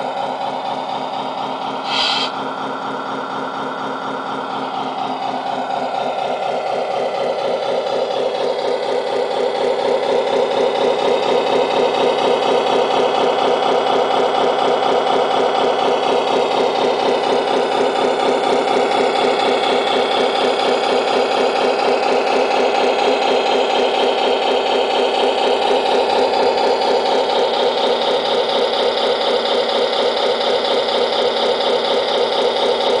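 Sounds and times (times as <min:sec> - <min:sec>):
radio-controlled truck running: 0:00.0 - 0:33.0.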